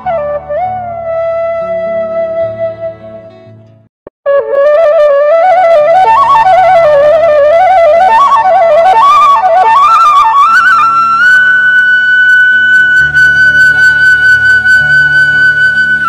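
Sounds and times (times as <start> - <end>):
flute melody: 0.0 - 3.6, 4.2 - 16.0.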